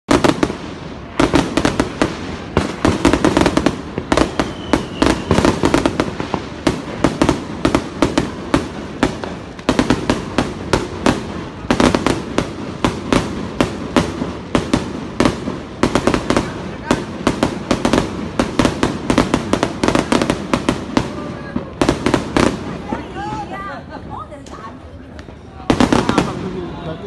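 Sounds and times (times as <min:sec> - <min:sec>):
fireworks bangs and crackling: 0:00.1 - 0:27.0.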